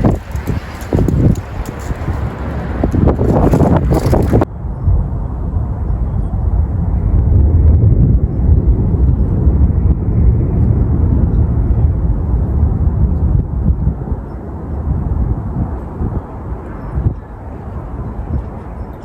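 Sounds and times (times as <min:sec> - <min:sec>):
thunder rumbling: 0:00.0 - 0:16.6.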